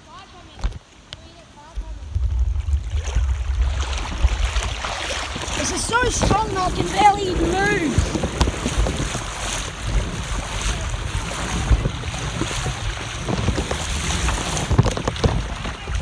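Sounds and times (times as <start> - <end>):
strong wind on microphone: 1.7 - 16.0.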